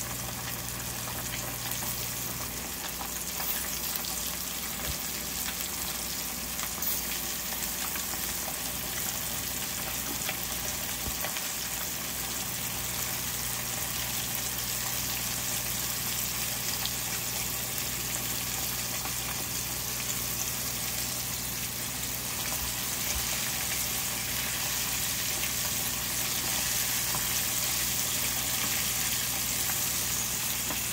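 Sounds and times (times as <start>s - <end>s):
fish deep-frying in oil: 0.0s - 30.9s.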